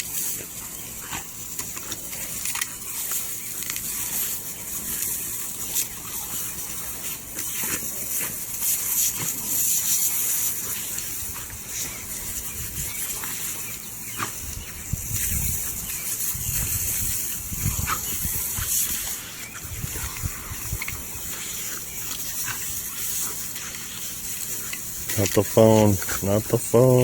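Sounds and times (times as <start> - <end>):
lawn sprinkler hissing: 0.0 - 27.0.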